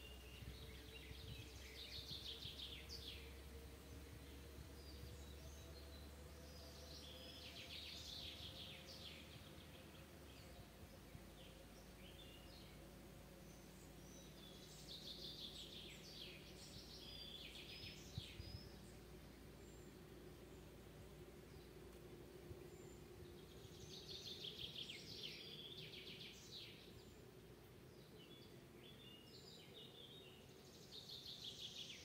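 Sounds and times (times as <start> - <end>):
songbirds trilling: 0.0 - 32.0.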